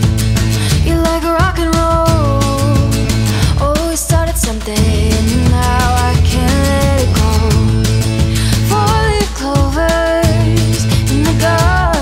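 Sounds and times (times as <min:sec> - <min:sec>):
pop music: 0:00.0 - 0:12.0.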